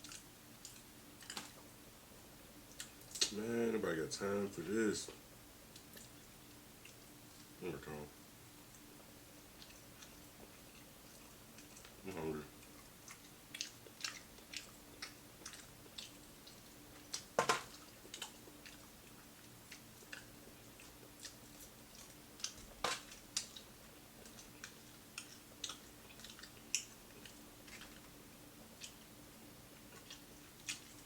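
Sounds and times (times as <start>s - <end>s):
person chewing crispy food: 0.0s - 1.7s, 2.6s - 3.4s, 5.7s - 7.6s, 8.7s - 31.0s.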